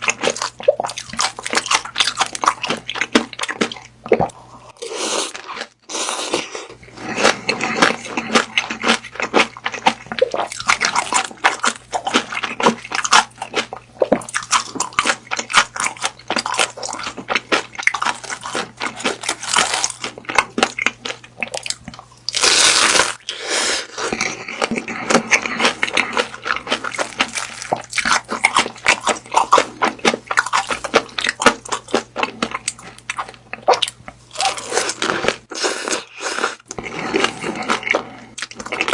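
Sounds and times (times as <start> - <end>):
chewing with mouth clicks: 0.0 - 38.9.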